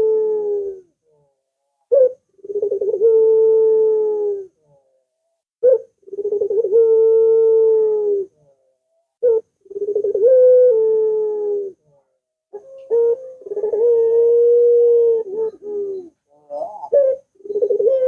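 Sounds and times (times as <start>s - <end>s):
dove cooing: 0.0s - 1.3s, 1.9s - 4.9s, 5.6s - 18.0s.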